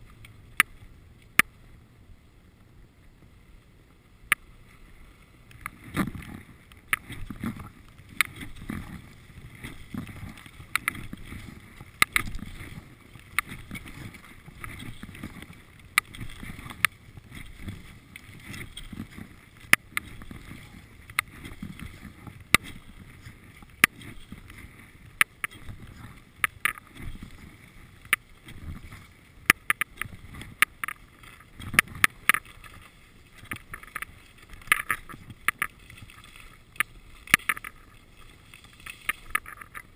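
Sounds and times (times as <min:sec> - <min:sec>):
skis scraping over snow: 0:04.6 - 0:39.9.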